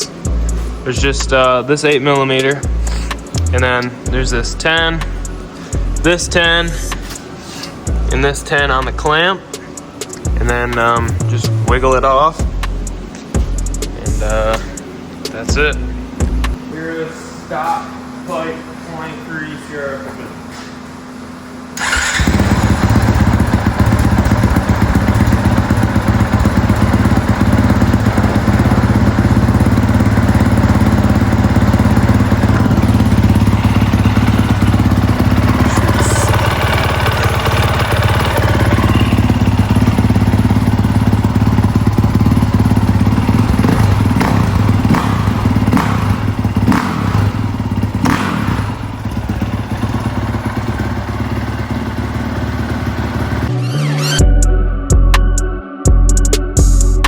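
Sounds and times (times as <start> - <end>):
motorcycle engine running: 0.0 - 16.7, 17.4 - 53.5.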